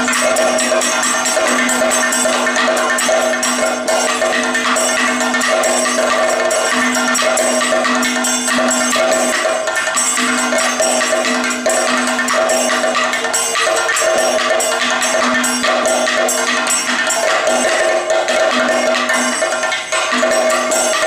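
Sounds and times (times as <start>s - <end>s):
drums struck in fast rhythm: 0.0s - 21.0s
small cymbals clashing: 0.0s - 21.0s.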